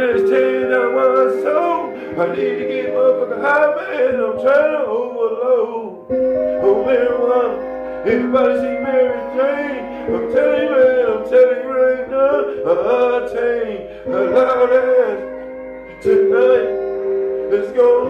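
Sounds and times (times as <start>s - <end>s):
held chord notes: 0.0s - 18.0s
man singing sliding melody: 0.0s - 18.0s.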